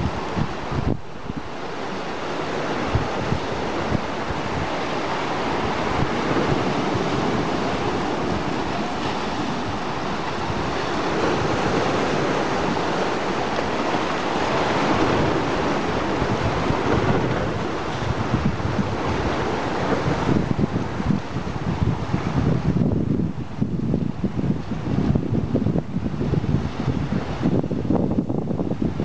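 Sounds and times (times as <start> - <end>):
surf breaking around rocks: 0.0 - 29.0
wind buffeting microphone: 0.0 - 29.0.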